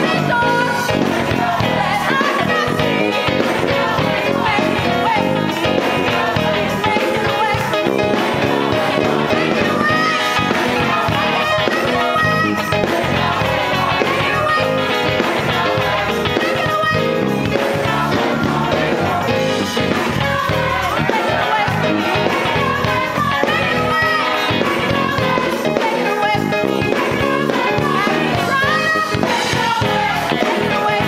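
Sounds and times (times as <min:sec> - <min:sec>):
gospel choir singing: 0:00.0 - 0:31.0.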